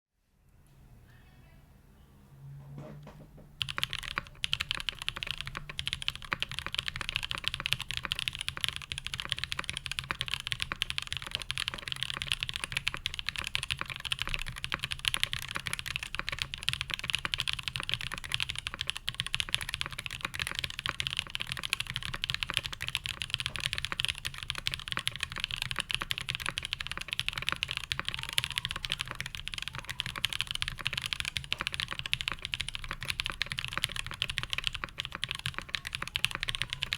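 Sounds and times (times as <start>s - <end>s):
mechanical keyboard typing: 3.6s - 36.9s.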